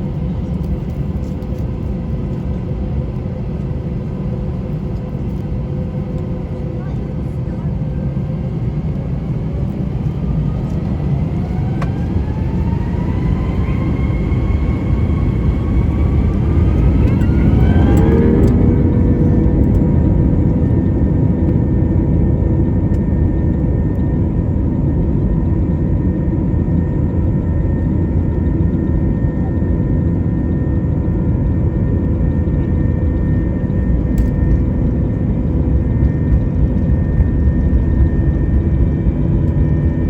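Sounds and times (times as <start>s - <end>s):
jet engines rumbling with whine: 0.0s - 40.0s.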